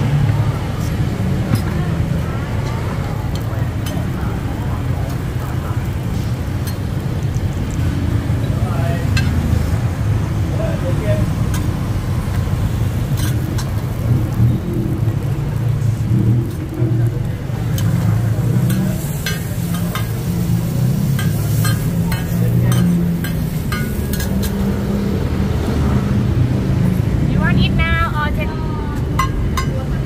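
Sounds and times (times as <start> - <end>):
faint frying sizzle: 0.0 - 26.8
street traffic rumble: 0.0 - 30.0.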